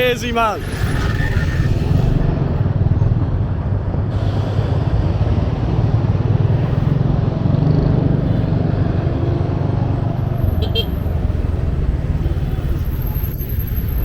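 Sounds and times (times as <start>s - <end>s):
vehicle rumble from on board: 0.7s - 14.0s.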